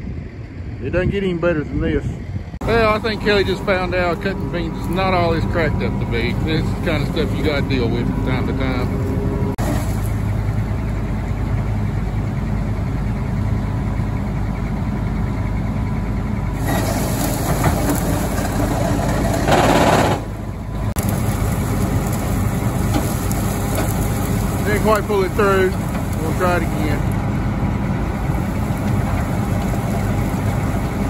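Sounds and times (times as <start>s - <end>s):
diesel machinery straining: 2.2s - 31.0s.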